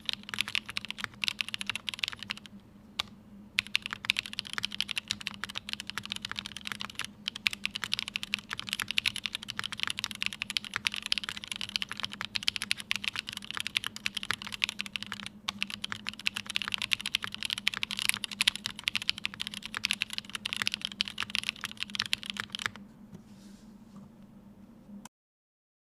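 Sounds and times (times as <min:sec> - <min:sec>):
typing on mechanical keyboard: 0:00.0 - 0:02.5, 0:03.6 - 0:22.8.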